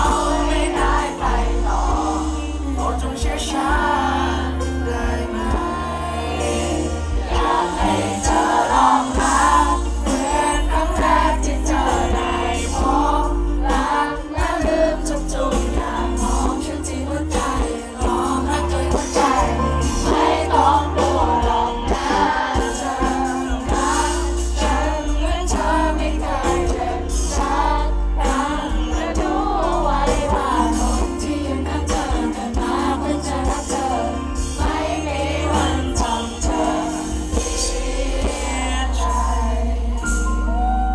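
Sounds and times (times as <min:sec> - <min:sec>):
backing band playing: 0:00.0 - 0:40.9.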